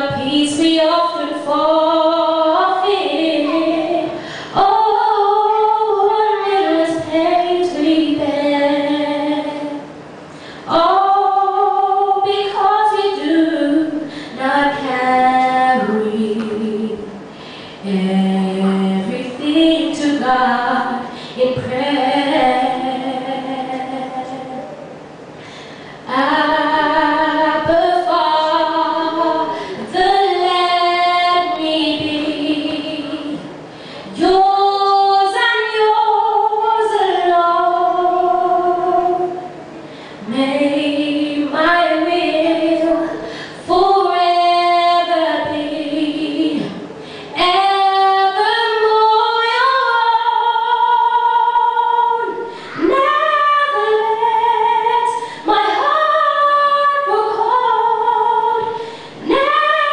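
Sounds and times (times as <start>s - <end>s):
woman singing a cappella: 0.0s - 9.9s, 10.6s - 24.8s, 26.0s - 59.9s.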